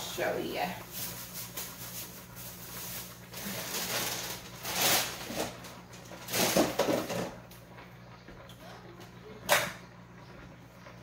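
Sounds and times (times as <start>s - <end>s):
kitchen rustling and clattering: 0.0s - 11.0s
low steady hum: 0.0s - 11.0s.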